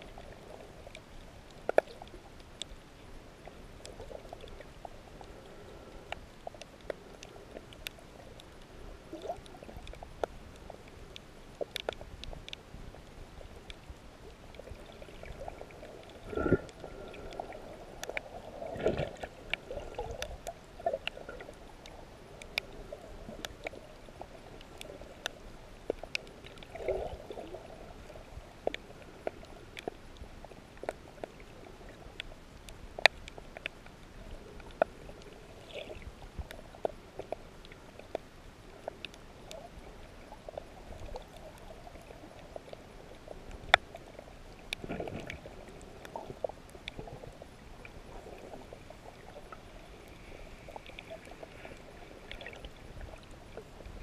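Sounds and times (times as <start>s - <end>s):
gurgling water swells: 0.0s - 54.0s
low underwater hiss: 0.0s - 54.0s
underwater clicks and crackles: 0.0s - 54.0s.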